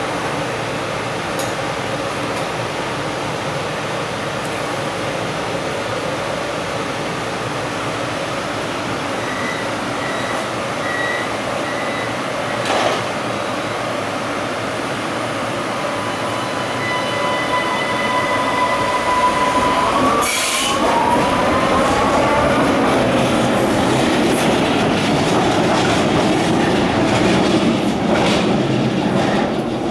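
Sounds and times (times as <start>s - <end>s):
station and train rumble: 0.0s - 29.9s.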